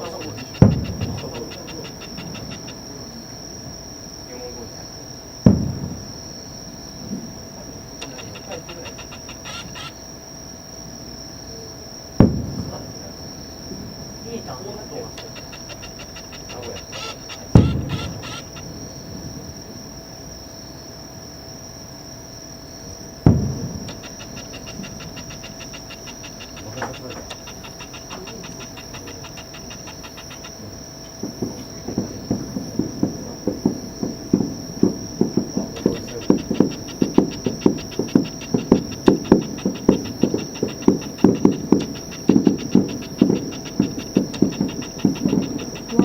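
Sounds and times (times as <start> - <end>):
fireworks bangs: 0.0 - 10.1, 11.6 - 20.2, 22.9 - 46.0
high hiss: 0.0 - 46.0.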